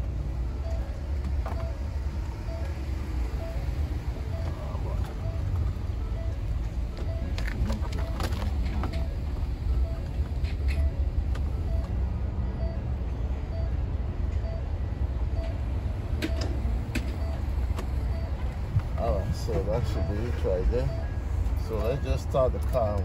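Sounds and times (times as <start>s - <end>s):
short beeps: 0.6s - 1.8s, 2.4s - 2.8s, 3.4s - 13.8s, 14.4s - 15.7s, 16.3s - 23.0s.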